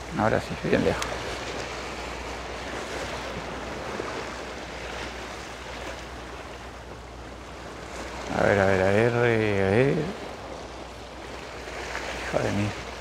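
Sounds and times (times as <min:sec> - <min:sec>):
sea surf washing against rocks: 0:00.0 - 0:13.0.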